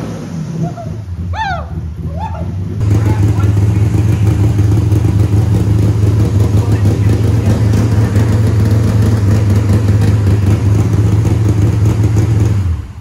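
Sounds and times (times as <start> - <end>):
engine idling loudly: 1.6 - 13.0.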